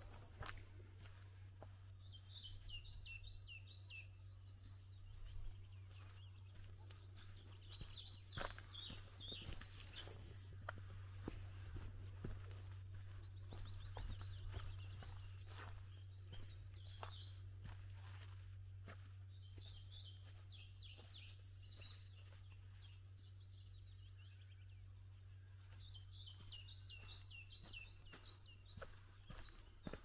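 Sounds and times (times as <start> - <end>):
faint footsteps on a path: 0.0 - 24.1, 24.9 - 30.0
small songbird singing: 1.1 - 30.0.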